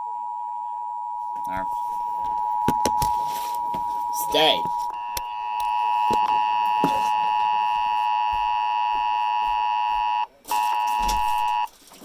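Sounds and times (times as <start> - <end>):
two-tone alert tone: 1.2 - 11.7.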